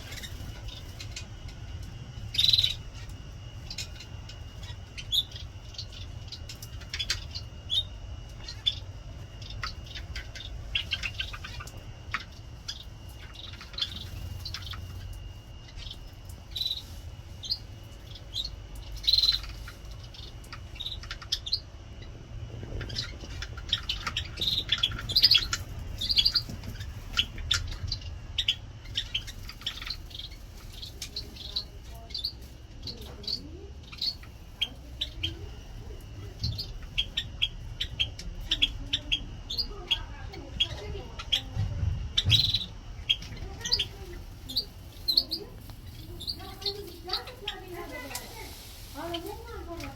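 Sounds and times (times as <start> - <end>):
low background rumble: 0.0 - 49.9
small birds chirping: 0.0 - 49.9.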